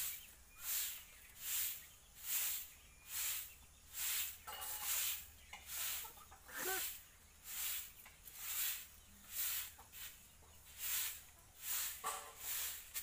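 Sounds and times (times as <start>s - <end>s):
rhythmic hissing: 0.0s - 13.0s.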